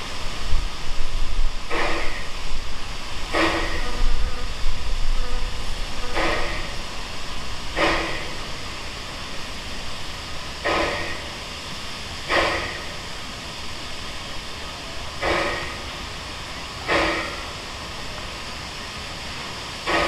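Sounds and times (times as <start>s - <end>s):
steam bursts: 0.0s - 20.0s
steam locomotive hissing: 0.0s - 20.0s.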